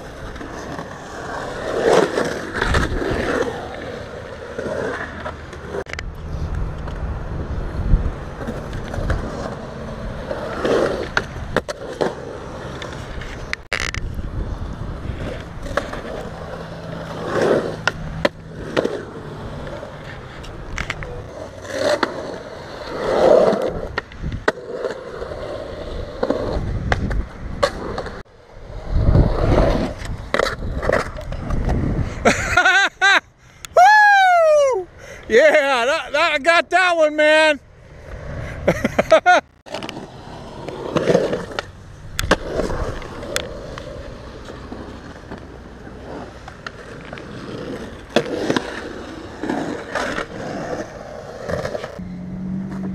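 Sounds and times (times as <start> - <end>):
skateboard wheels rolling on concrete: 0.0 - 52.9.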